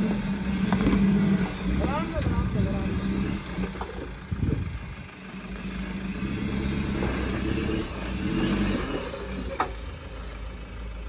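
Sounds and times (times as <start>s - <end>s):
engine revving under load: 0.0s - 10.5s.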